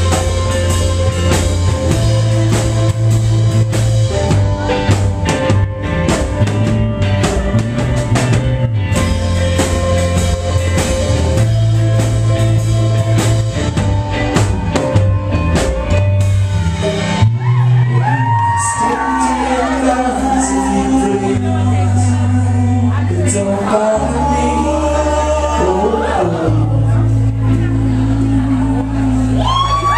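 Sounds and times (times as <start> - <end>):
drum kit: 0.0 - 29.9
electric guitars: 0.0 - 29.9
heavy bass line: 0.0 - 29.9.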